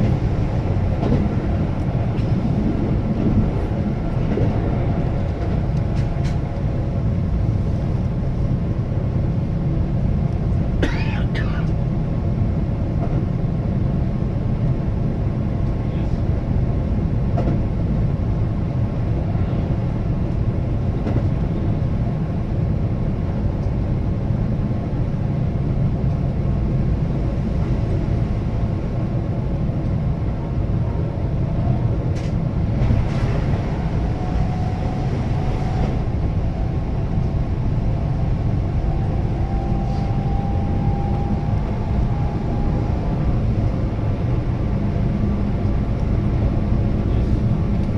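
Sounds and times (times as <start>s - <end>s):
train wheels rumbling on rail: 0.0s - 47.9s.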